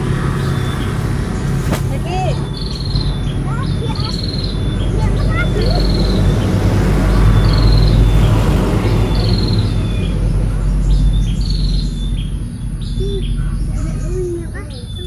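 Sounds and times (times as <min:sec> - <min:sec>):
bird trilled chirping: 0:00.3 - 0:01.1, 0:02.1 - 0:15.0.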